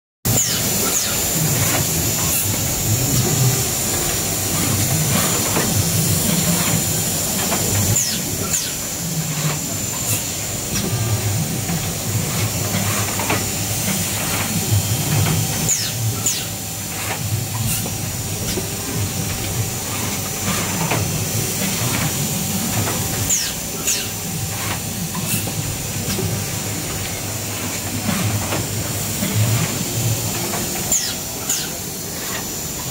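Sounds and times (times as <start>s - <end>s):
machine hiss and hum: 0.3s - 32.9s.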